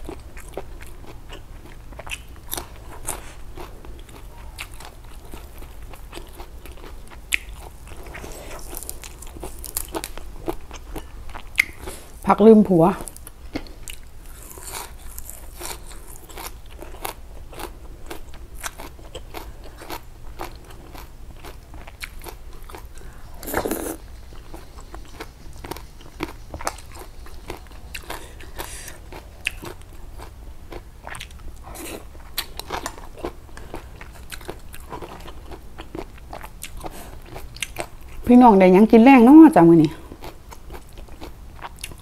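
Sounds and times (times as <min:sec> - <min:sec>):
chewing crisp leafy greens: 0:00.0 - 0:42.0.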